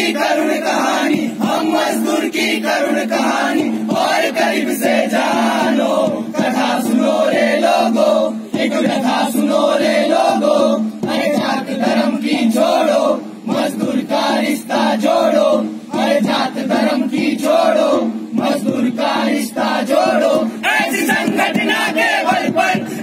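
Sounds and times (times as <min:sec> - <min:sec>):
group of voices chanting: 0:00.0 - 0:23.0.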